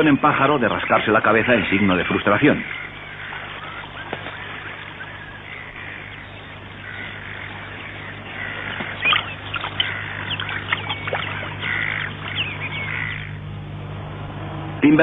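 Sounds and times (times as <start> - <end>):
avocets calling: 0.0 - 15.0
steady low hum: 0.0 - 15.0.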